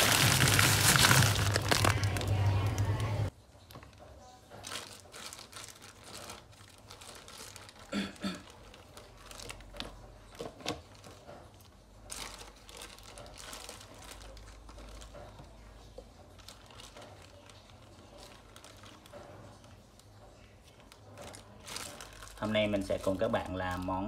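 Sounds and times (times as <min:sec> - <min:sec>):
plastic crinkling and rustling: 0:00.0 - 0:24.0.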